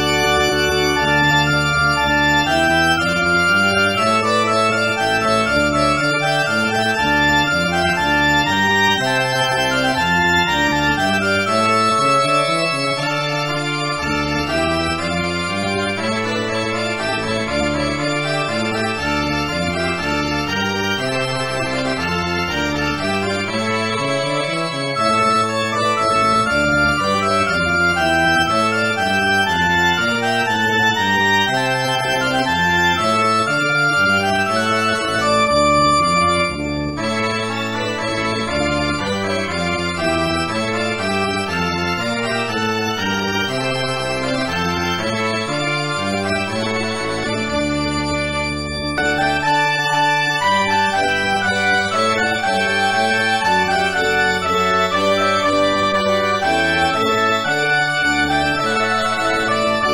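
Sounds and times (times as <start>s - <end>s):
organ music: 0.0s - 59.9s.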